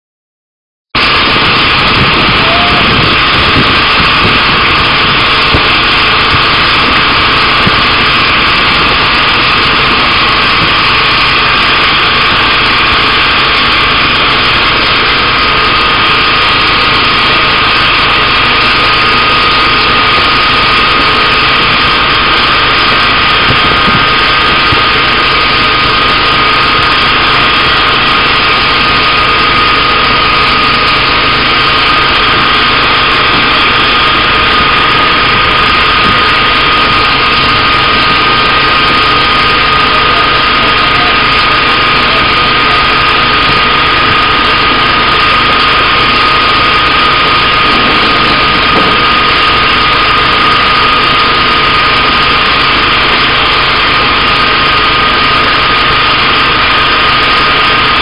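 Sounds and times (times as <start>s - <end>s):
boat engine running: 1.0s - 58.0s.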